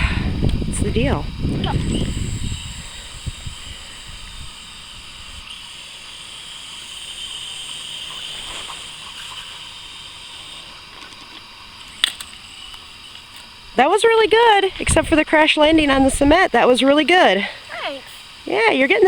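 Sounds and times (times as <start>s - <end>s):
toy helicopter motor whine: 0.0s - 19.0s.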